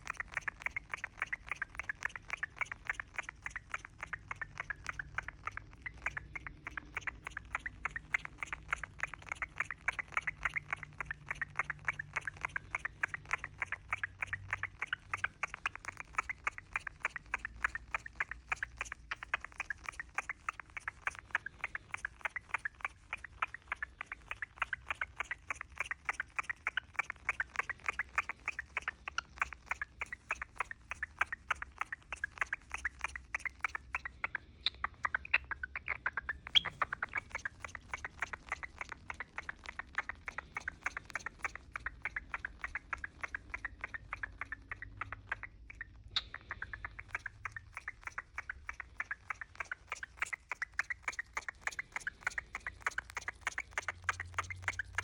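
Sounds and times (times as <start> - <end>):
cockatiel chirping: 0.0 - 55.0.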